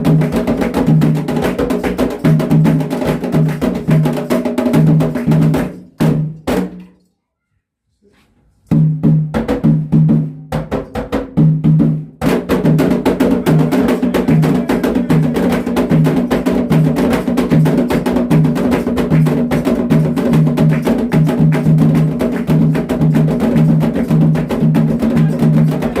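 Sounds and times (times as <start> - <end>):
fast percussion drumming: 0.0 - 6.8, 8.7 - 26.0.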